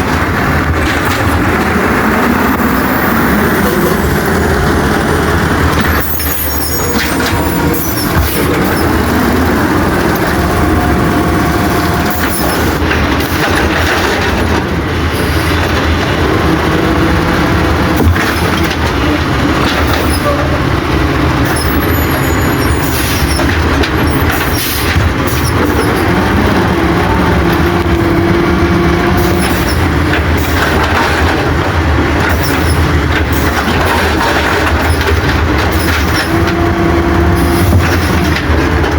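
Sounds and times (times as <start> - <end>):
truck engine at high revs: 0.0 - 38.9
hydraulic whine: 0.4 - 38.9.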